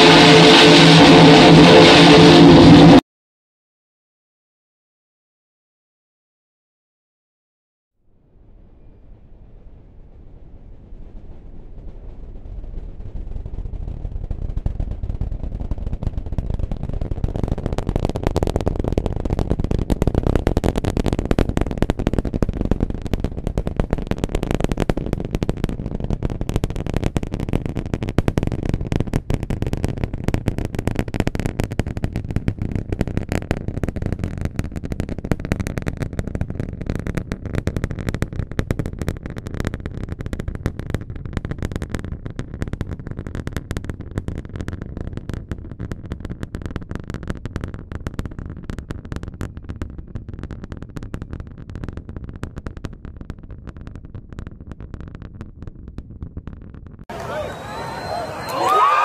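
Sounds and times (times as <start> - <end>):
rocket engines crackling and rumbling: 0.0 - 3.0, 8.1 - 59.0.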